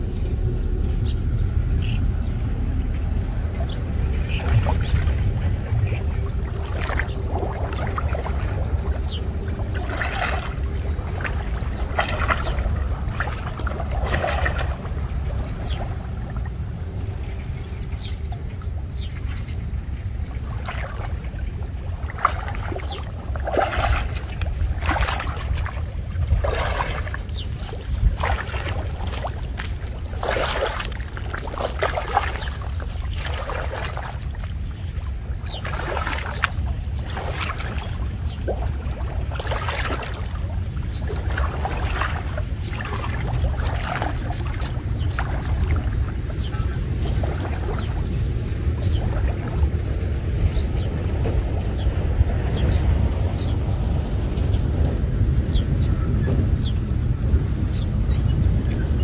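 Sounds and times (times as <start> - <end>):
steady low rumble: 0.0 - 59.0
water splashing and sloshing: 0.0 - 59.0.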